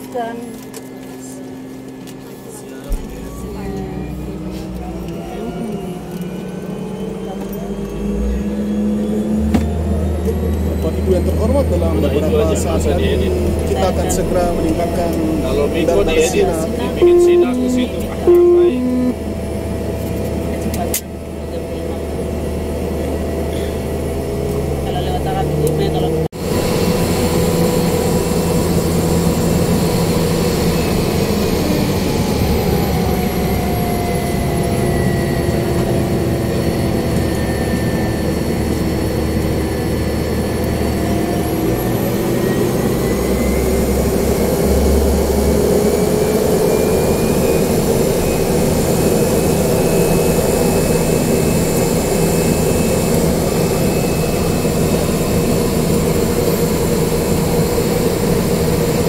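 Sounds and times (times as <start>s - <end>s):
turboprop turbine whine: 0.0s - 59.0s.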